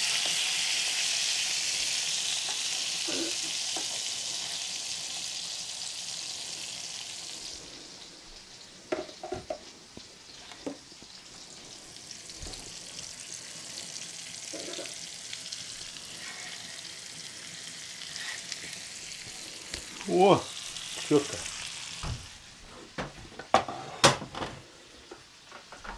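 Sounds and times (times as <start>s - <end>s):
food sizzling in frying pan: 0.0s - 22.7s.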